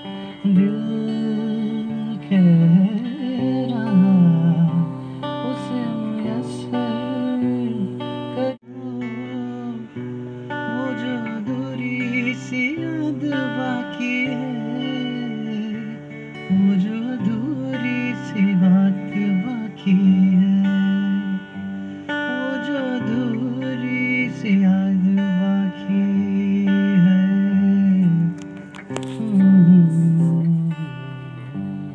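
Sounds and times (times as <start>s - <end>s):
acoustic guitar strumming: 0.0s - 31.9s
man singing: 0.0s - 31.9s.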